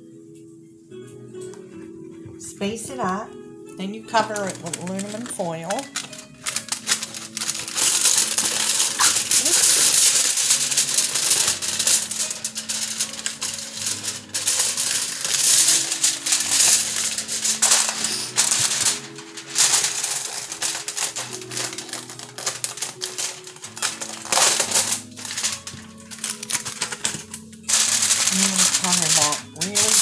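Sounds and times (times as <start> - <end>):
background music: 0.0 - 30.0
aluminum foil crinkling: 3.9 - 30.0.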